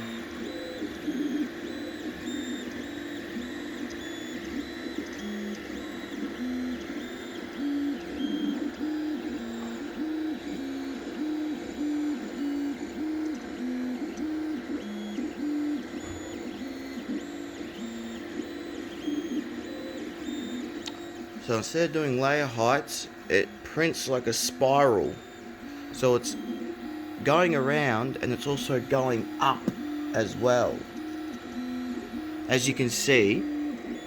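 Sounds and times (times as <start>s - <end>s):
printer stepper motors singing: 0.0s - 34.0s
steady printer whir: 0.0s - 34.0s.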